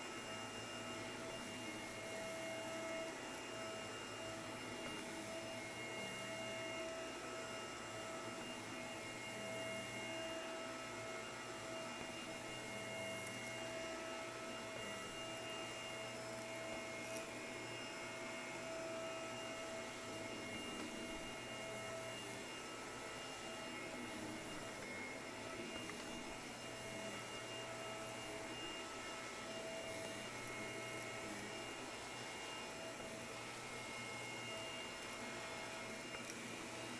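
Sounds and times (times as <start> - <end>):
vacuum cleaner motor whining: 0.0 - 36.9.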